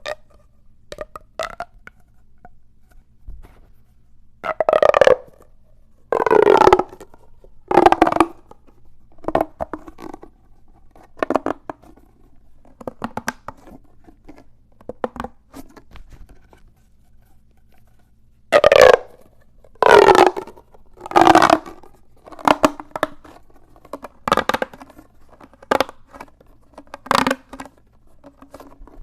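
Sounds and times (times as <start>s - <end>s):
plastic pop tubes clicking and groaning: 0.0s - 2.6s, 4.4s - 5.5s, 6.1s - 16.6s, 18.5s - 29.0s.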